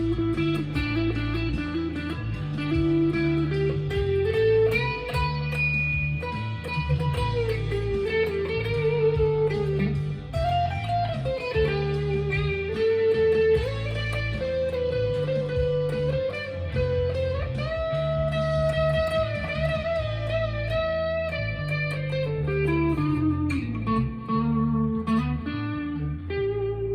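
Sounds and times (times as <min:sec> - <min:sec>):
electric guitar lead line: 0:00.0 - 0:26.9
low bass accompaniment: 0:00.0 - 0:26.9.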